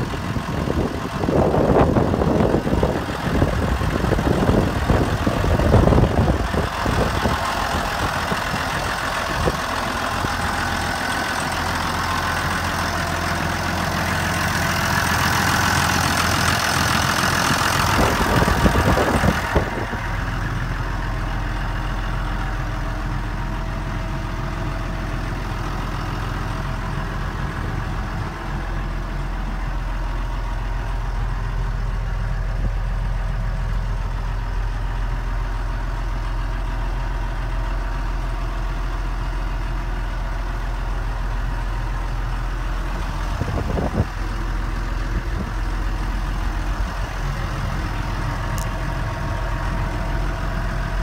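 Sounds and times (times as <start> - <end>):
tractor diesel engine idling: 0.0 - 51.0.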